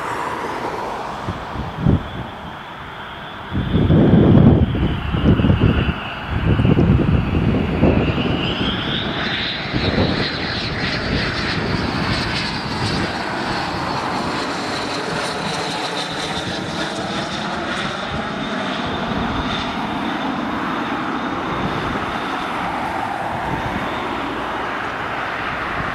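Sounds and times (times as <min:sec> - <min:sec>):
aircraft rumble: 0:00.0 - 0:25.9
jet engine whine: 0:00.0 - 0:25.9.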